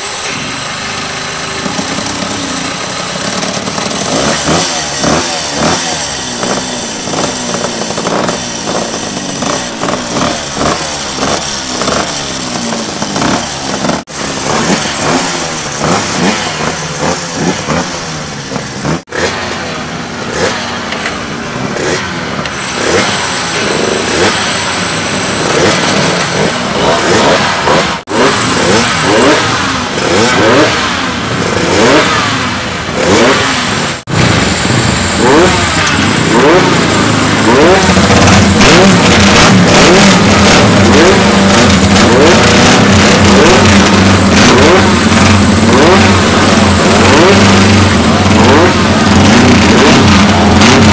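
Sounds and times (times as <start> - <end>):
two-stroke motorcycles revving: 0.0 - 50.9.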